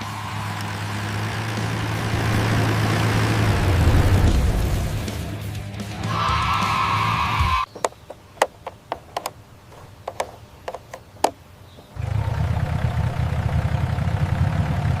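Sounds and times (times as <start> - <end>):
low engine rumble: 0.0 - 6.0, 7.6 - 15.0.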